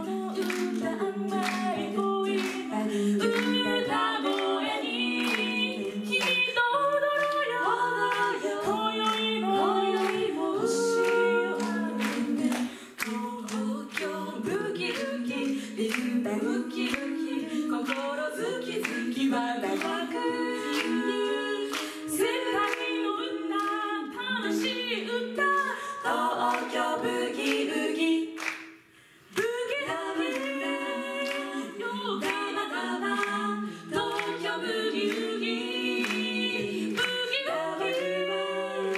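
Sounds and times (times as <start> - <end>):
women singing a cappella: 0.0 - 38.9.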